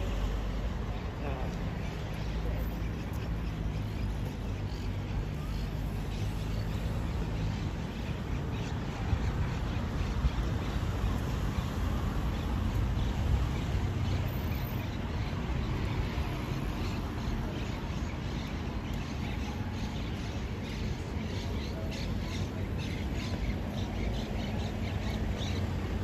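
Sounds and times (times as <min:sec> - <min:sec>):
birds squawking and chirping: 0:00.9 - 0:26.0.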